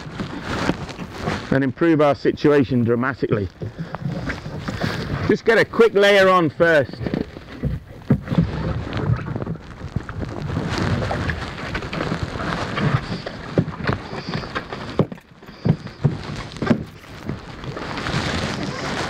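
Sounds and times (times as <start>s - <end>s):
plastic stretch wrap crackling: 0.0s - 19.0s
water splashing against boat: 0.0s - 19.0s.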